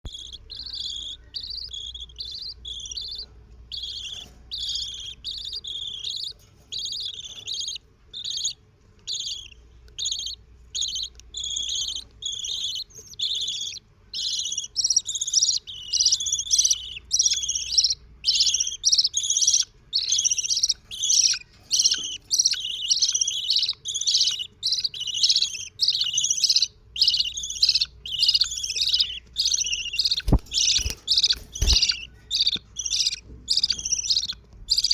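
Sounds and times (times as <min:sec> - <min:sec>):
budgerigar chicks chirping: 0:00.0 - 0:34.9.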